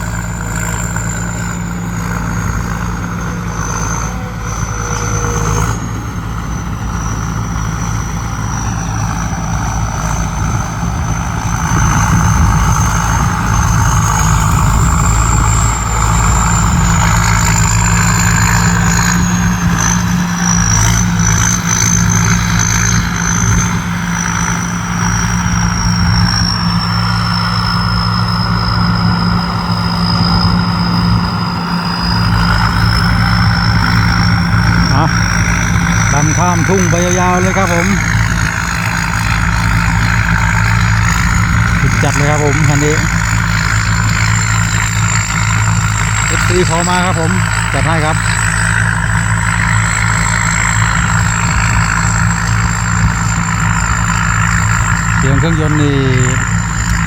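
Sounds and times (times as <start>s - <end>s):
harvester diesel engine droning: 0.0s - 57.0s
high wavering whine: 0.0s - 57.0s.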